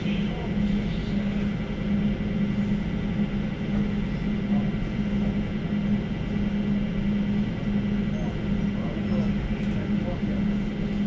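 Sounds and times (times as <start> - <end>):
pulsing low hum: 0.0 - 11.0
train rumble in tunnel: 0.0 - 11.0.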